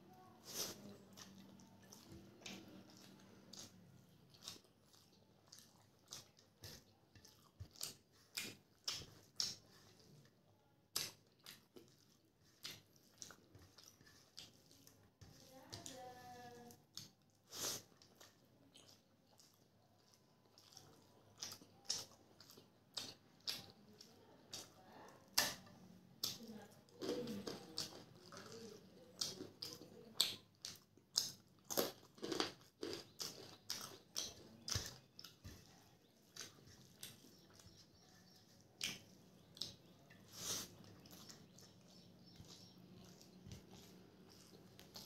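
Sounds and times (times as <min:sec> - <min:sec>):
wet chewing mouth sounds: 0:00.1 - 0:45.0.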